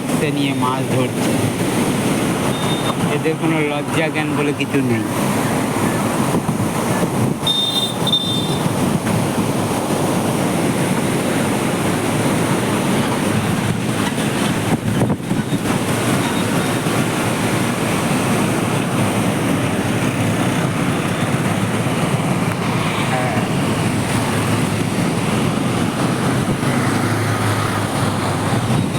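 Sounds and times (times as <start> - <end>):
water rushing through sluice gates: 0.0 - 28.9.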